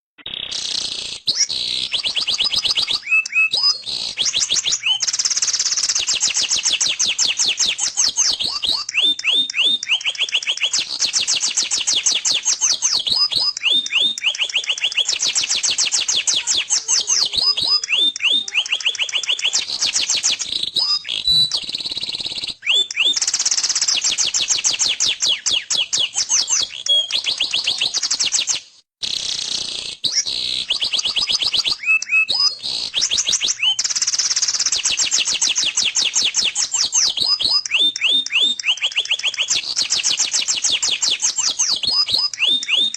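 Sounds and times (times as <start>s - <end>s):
canary singing trills: 0.2s - 42.9s.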